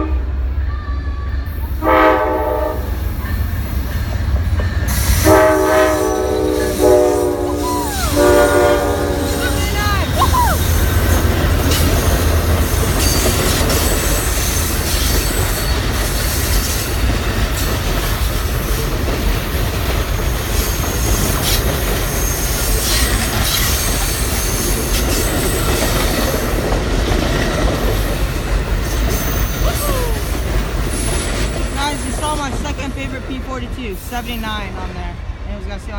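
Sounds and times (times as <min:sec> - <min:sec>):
deep train rumble: 0:00.0 - 0:35.9
train wheels clicking over rail joints: 0:03.0 - 0:07.0, 0:09.0 - 0:34.4.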